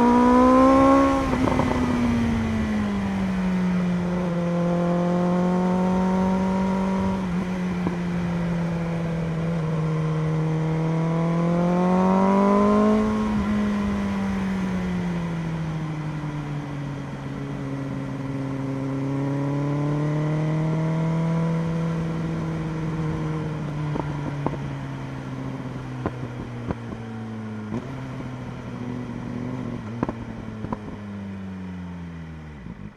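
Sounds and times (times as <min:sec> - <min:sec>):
motorcycle engine under throttle: 0:00.0 - 0:32.9.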